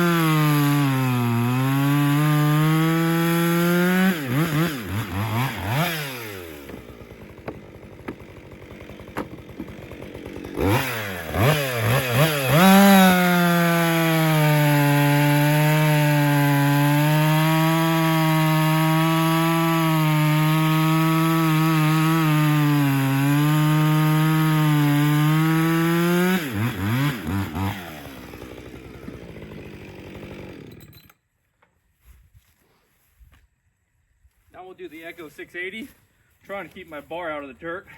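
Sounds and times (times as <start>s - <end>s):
chainsaw cutting log: 0.0s - 31.2s.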